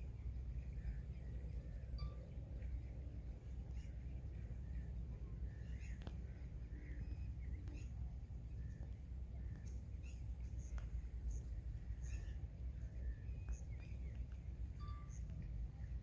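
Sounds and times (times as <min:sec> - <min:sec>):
faint bird chirps: 0:00.0 - 0:16.0
wind rumble on microphone: 0:00.0 - 0:16.0.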